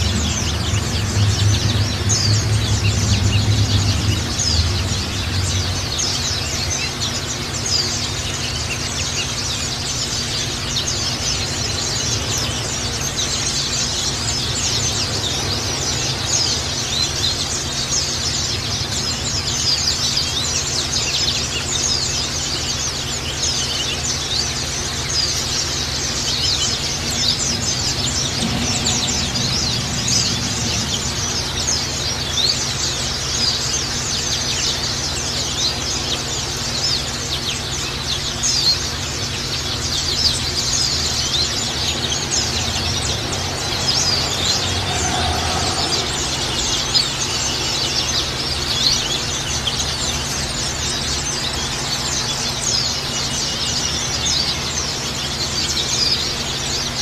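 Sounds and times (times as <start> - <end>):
low steady hum: 0.0 - 56.4
birds twittering: 0.0 - 57.0.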